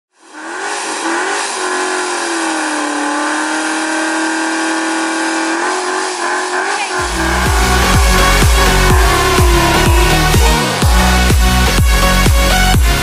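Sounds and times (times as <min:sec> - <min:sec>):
car engine at high revs: 0:00.1 - 0:13.0.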